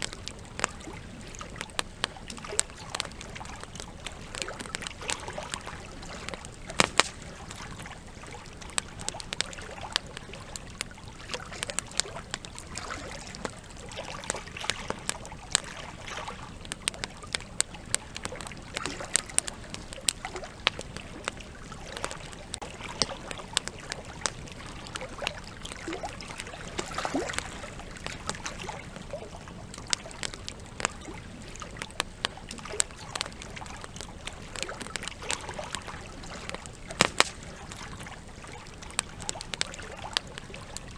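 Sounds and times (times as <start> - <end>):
campfire crackling and popping: 0.0 - 40.9
water gurgling: 0.0 - 40.9.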